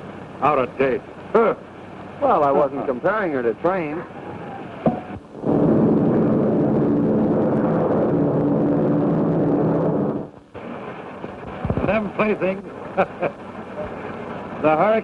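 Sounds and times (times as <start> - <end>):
loud engine noise: 0.0 - 15.0.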